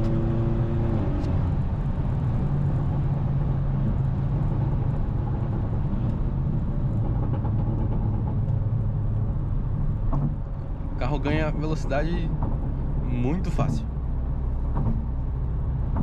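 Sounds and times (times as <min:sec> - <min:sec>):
car engine low drone: 0:00.0 - 0:16.0
tyre and road noise: 0:00.0 - 0:16.0.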